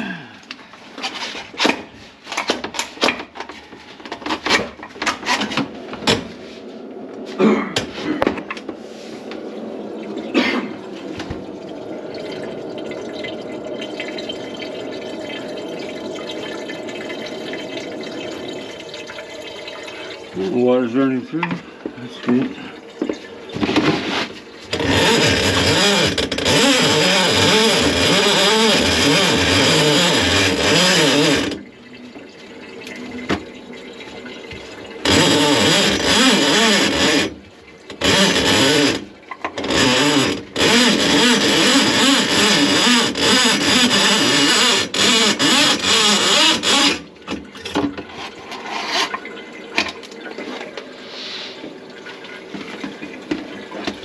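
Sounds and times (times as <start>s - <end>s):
water rushing through sink drain: 0.1s - 54.0s.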